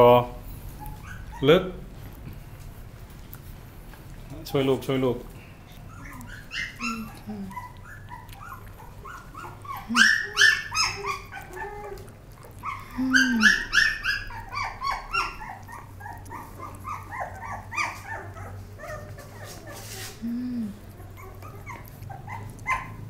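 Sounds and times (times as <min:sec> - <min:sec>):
puppies whining and yelping: 0:00.5 - 0:01.7, 0:05.5 - 0:23.0.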